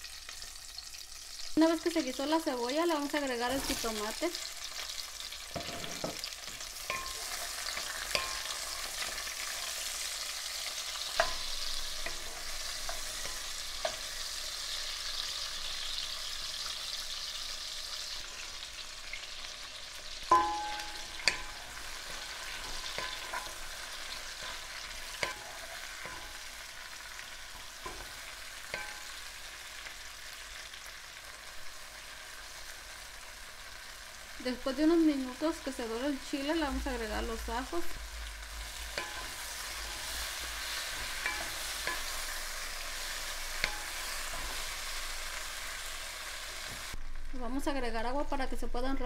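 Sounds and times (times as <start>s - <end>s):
onion and tomato sizzling in oil: 0.0s - 49.0s.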